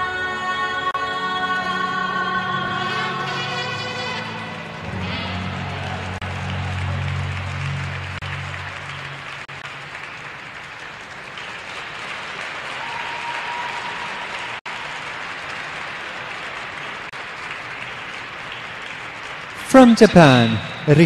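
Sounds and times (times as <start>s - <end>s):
audience applauding: 3.3s - 21.0s.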